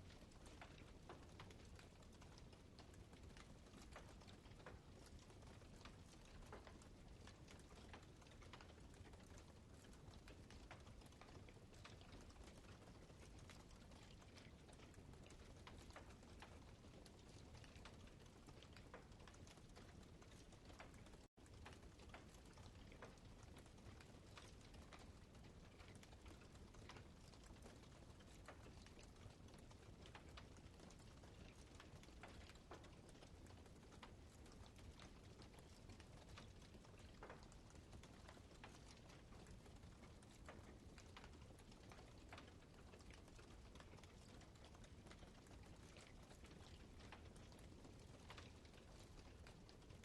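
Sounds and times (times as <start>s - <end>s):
campfire crackling faintly: 0.0s - 50.0s.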